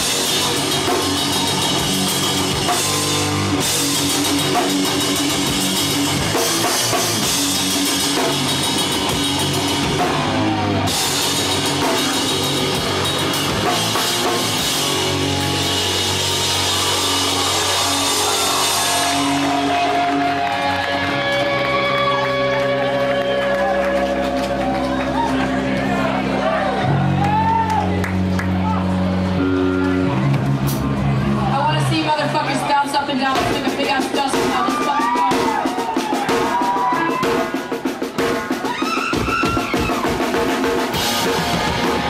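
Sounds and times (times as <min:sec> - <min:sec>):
live punk band playing: 0:00.0 - 0:42.0.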